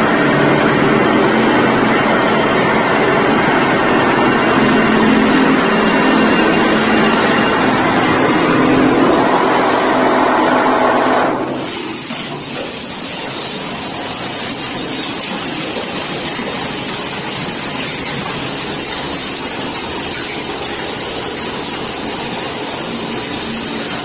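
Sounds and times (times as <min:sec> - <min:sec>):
plastering machine running: 0:00.0 - 0:24.0.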